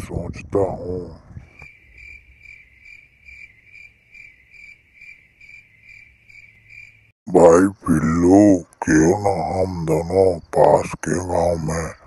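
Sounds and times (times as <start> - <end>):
cricket chirping: 1.6 - 12.0.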